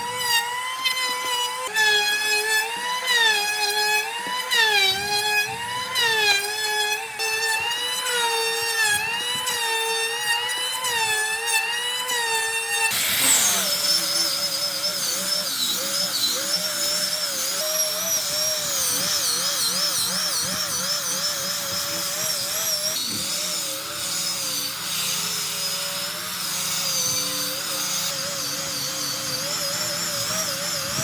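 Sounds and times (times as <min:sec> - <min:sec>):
power tool cutting wood: 0:00.0 - 0:31.0.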